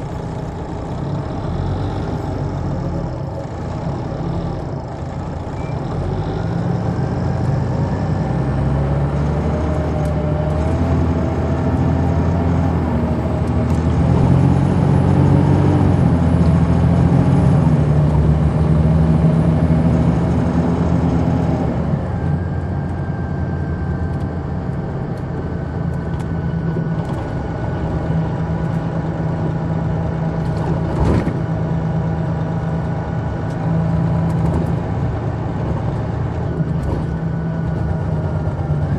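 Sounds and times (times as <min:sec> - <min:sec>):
coach diesel engine under load: 0:00.0 - 0:38.9.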